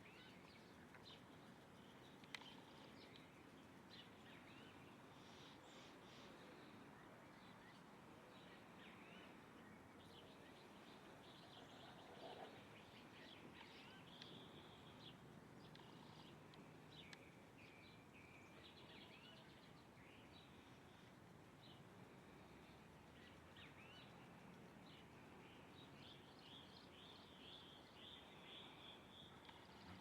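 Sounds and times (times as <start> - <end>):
background hiss: 0.0 - 30.0
songbirds chirping: 0.0 - 30.0.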